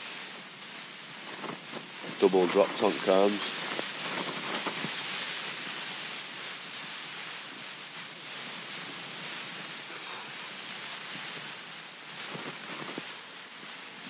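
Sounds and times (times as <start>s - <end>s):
heavy rain and wind on a tent: 0.0s - 14.0s.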